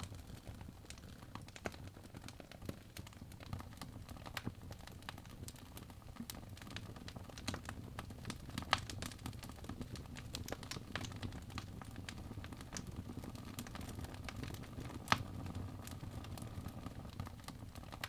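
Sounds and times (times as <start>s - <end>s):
low rumble of fire: 0.0s - 18.0s
wood fire pops and snaps: 0.0s - 18.0s.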